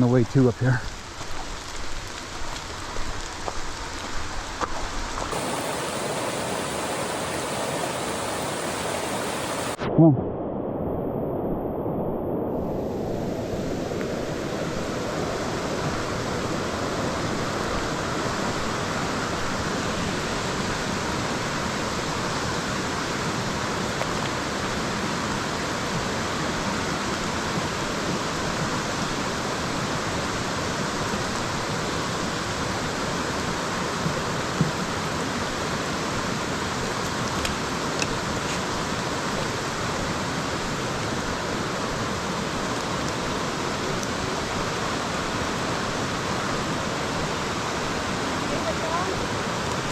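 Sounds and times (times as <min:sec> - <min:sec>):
rushing water: 0:00.0 - 0:09.8, 0:12.2 - 0:49.9.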